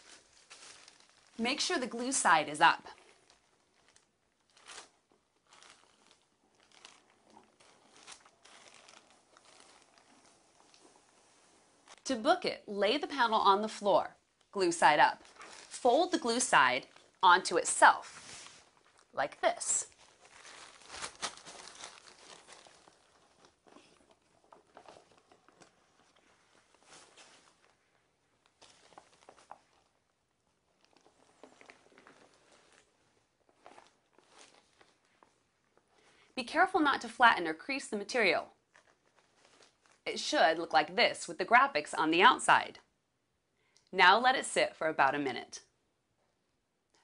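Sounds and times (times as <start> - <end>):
wet wallpaper crinkling: 0.0 - 37.1, 38.2 - 40.9.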